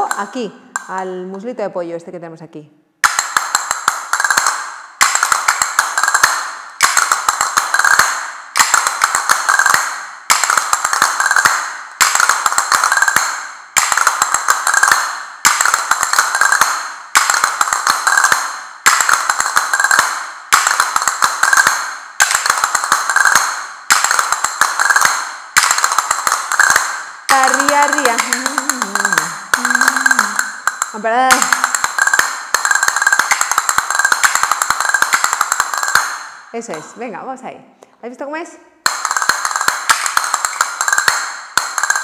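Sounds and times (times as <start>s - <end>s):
castanets clicking and rolling: 3.0s - 36.8s, 38.8s - 42.0s.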